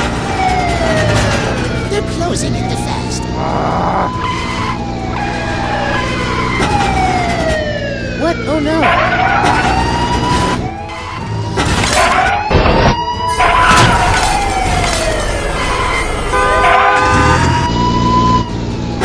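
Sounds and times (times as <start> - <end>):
police siren wailing: 0.0 - 19.0.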